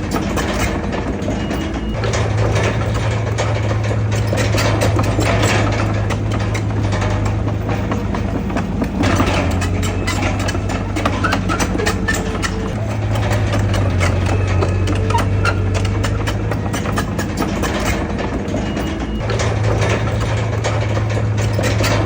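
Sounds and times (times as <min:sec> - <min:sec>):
heavy diesel engine running: 0:00.0 - 0:22.0
rapid clatter of clicks: 0:00.0 - 0:22.0.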